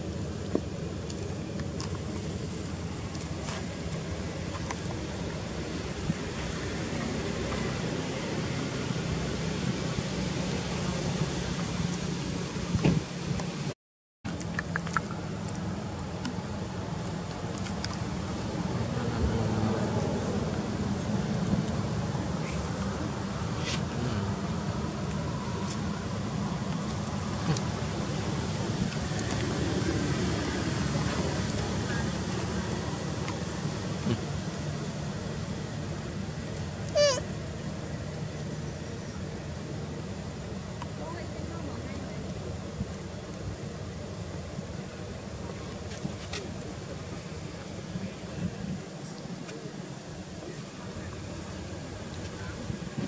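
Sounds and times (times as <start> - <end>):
low outdoor rumble: 0.0 - 53.0.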